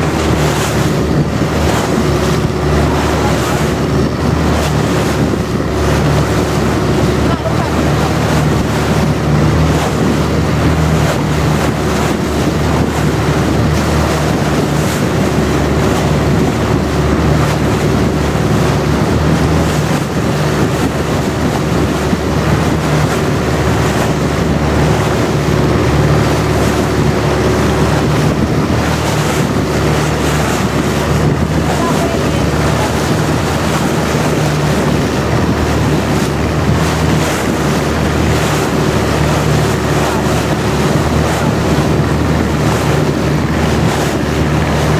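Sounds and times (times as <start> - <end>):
boat engine running: 0.0 - 44.9
water rushing past hull: 0.0 - 44.9
wind buffeting microphone: 0.0 - 44.9.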